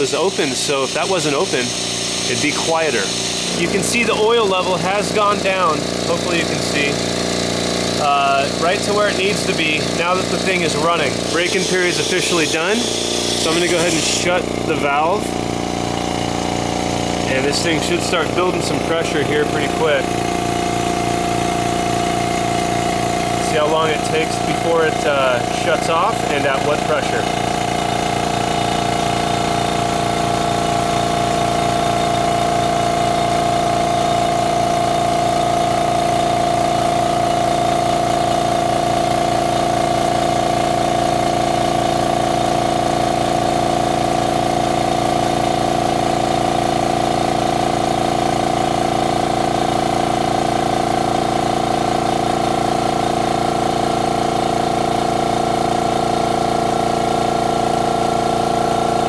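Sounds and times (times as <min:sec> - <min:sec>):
air compressor humming: 0:00.0 - 0:59.0.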